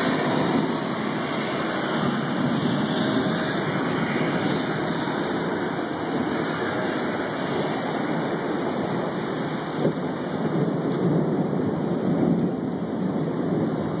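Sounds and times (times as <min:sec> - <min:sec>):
heavy rain pouring: 0:00.0 - 0:14.0
thunder rumbling: 0:00.0 - 0:14.0.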